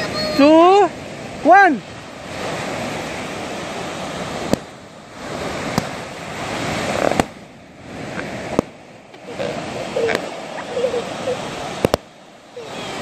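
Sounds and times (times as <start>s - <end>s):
surf rushing: 0.0s - 13.0s
wind: 0.0s - 13.0s.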